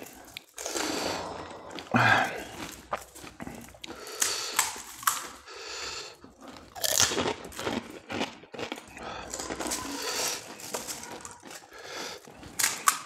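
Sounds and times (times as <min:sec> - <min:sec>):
crisp shells cracking: 0:00.0 - 0:05.7, 0:06.3 - 0:13.0
crunching and wet chewing: 0:00.0 - 0:13.0.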